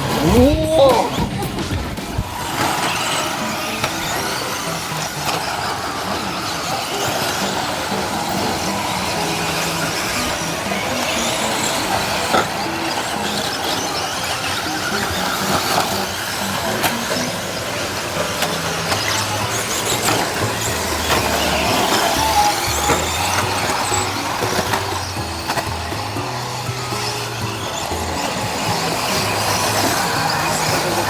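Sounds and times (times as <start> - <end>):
toy car motors whining: 0.0 - 31.0
tyres churning dirt: 0.0 - 31.0.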